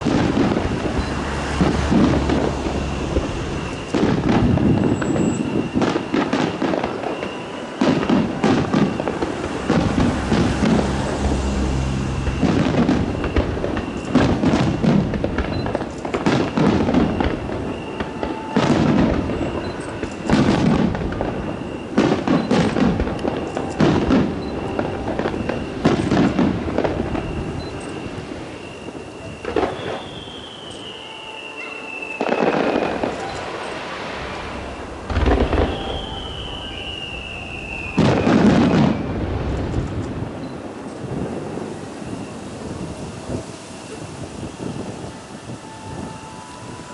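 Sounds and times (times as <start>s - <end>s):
fireworks bursting with crackle: 0.0s - 46.9s.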